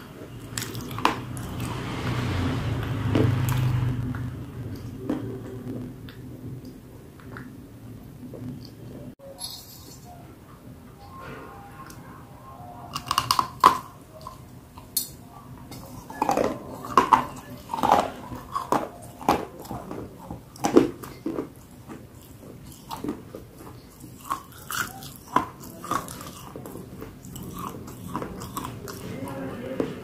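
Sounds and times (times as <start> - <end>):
chewing: 0.0 - 7.6, 12.8 - 30.0.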